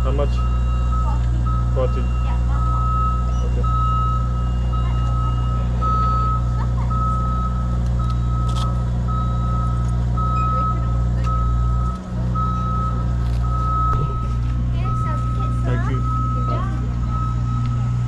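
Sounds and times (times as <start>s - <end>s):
electronic warning beeper: 0.0s - 18.0s
loud low rumble: 0.0s - 18.0s.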